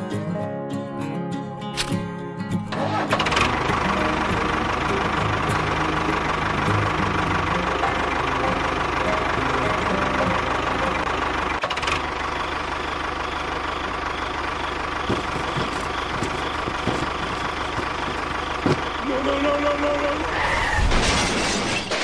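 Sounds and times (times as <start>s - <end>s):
engine chugging: 2.7s - 20.8s.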